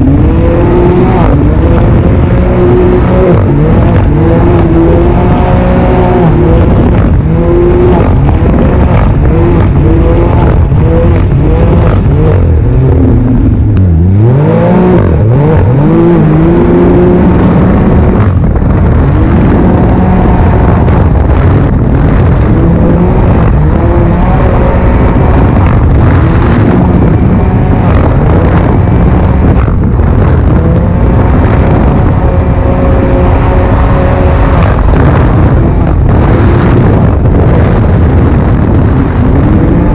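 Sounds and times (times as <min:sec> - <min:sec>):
snowmobile engine at speed: 0:00.0 - 0:39.9.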